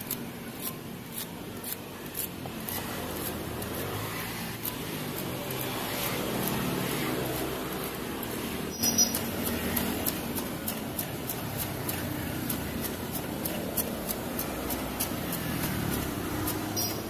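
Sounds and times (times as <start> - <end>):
blade cutter chopping sugarcane: 0.0 - 17.0.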